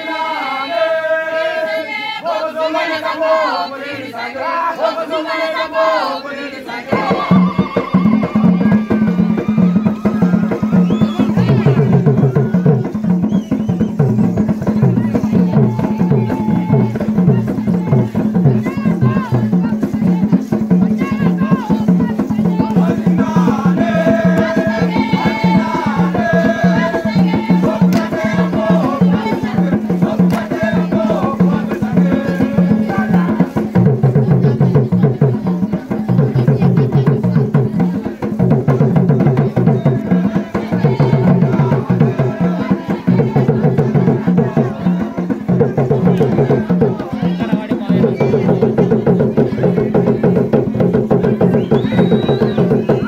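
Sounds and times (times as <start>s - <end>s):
girls singing in chorus: 0.0s - 12.6s, 15.1s - 37.3s, 38.7s - 47.4s
hand drums beating fast: 6.9s - 53.0s.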